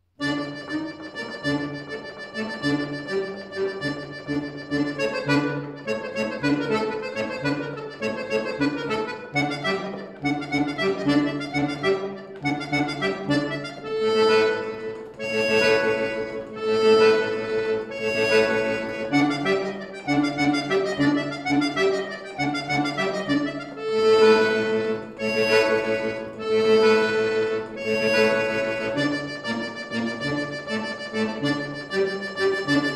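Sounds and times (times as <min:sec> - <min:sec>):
accordion playing: 0:00.0 - 0:32.9.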